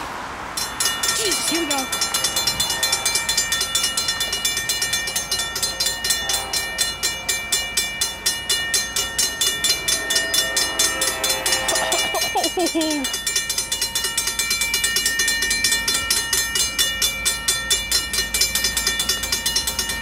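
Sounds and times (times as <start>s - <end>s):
crossing warning bell ringing: 0.0s - 20.0s.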